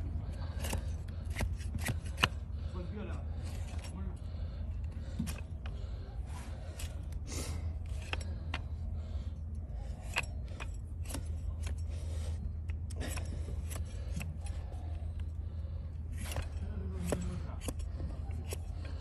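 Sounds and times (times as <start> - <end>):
blade cutting hoof: 0.0 - 4.1, 4.7 - 9.0, 9.6 - 19.0
steady low rumble: 0.0 - 19.0.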